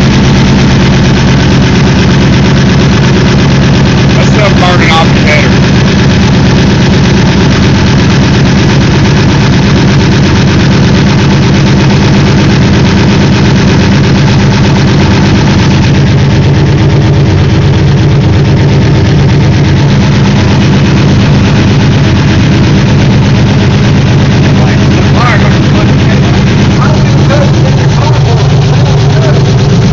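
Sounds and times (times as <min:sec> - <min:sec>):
engine idling loudly: 0:00.0 - 0:29.9.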